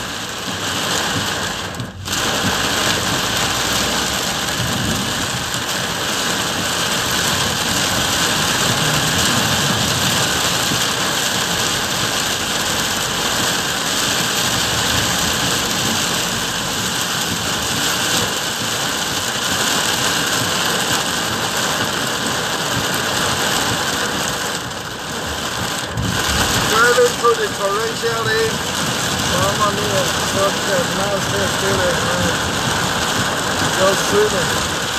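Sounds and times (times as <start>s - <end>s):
heavy rain drumming on car roof: 0.0s - 34.9s.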